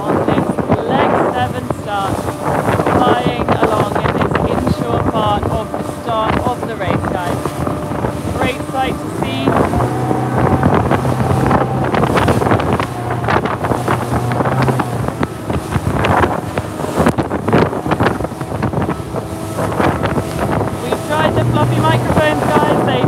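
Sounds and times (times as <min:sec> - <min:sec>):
boat motor humming: 0:00.0 - 0:23.0
water splashing against boat hull: 0:00.0 - 0:23.0
wind buffeting microphone: 0:00.0 - 0:23.0.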